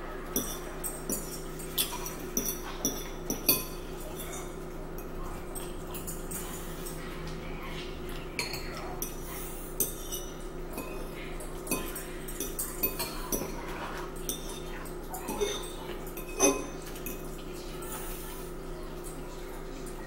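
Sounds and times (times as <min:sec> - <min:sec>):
forks clinking on ceramic bowls: 0:00.3 - 0:07.2, 0:08.1 - 0:18.4.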